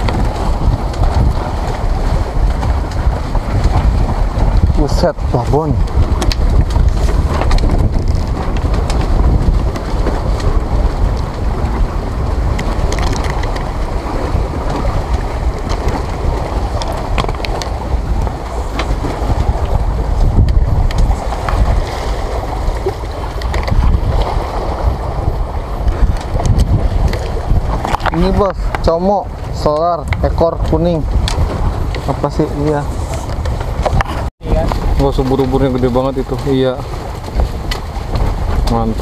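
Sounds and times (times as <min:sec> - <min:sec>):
sea water washing: 0:00.0 - 0:39.0
wind buffeting microphone: 0:00.0 - 0:39.0.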